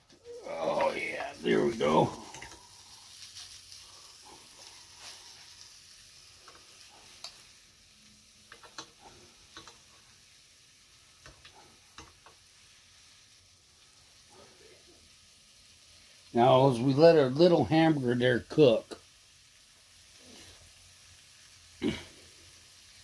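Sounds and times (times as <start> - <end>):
patty sizzling on a grill: 0.0 - 23.0.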